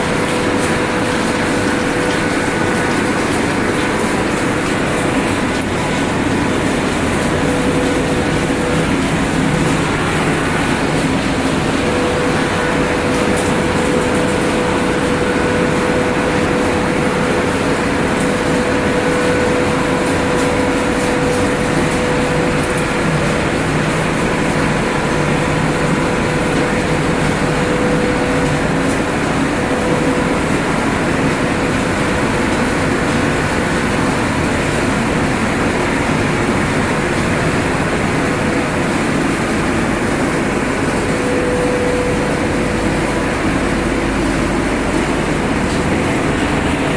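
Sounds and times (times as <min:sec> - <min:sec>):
machinery rumbling: 0:00.0 - 0:46.9
steady machine hum: 0:00.0 - 0:46.9.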